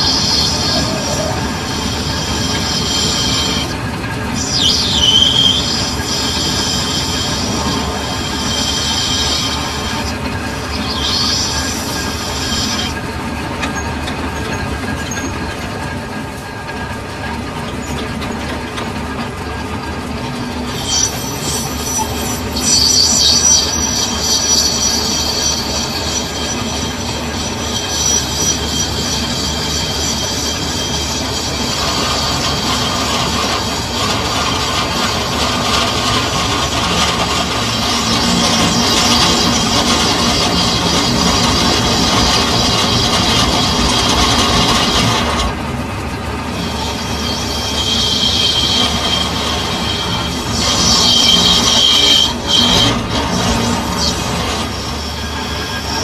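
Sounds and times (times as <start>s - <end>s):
lathe tool squealing on steel: 0.0s - 56.0s.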